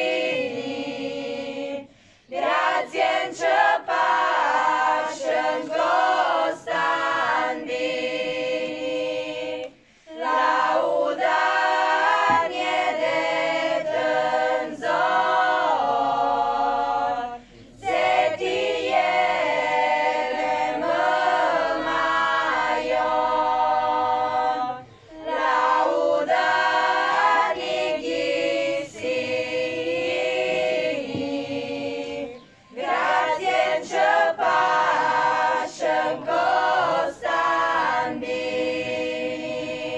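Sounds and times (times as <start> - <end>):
women's choir singing a cappella: 0.0 - 39.9.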